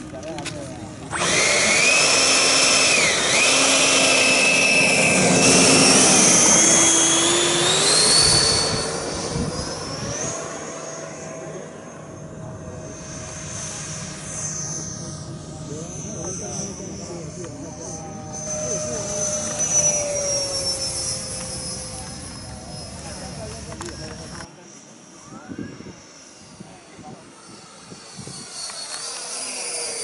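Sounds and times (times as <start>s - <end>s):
model jet engine whine: 0.0s - 30.0s.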